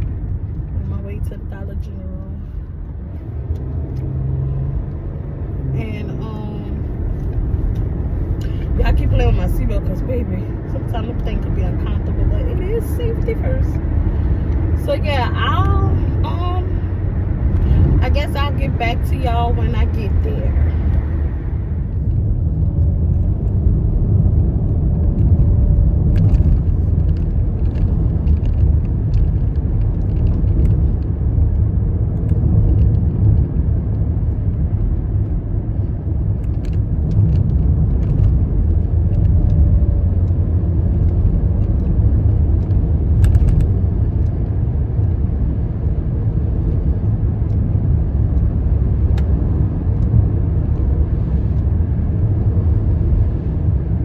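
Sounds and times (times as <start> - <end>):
road and engine rumble inside car: 0.0 - 54.0.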